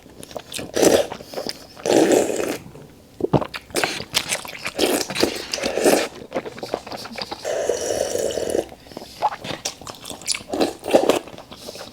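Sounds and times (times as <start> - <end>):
slurping noodles: 0.7 - 2.7, 3.7 - 11.9.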